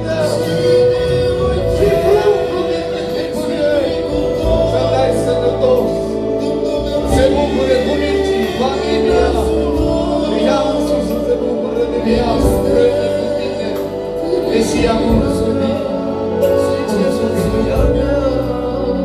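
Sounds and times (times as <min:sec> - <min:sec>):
slow bass line: 0:00.0 - 0:19.0
sustained chords: 0:00.0 - 0:19.0
voices singing: 0:00.0 - 0:19.0.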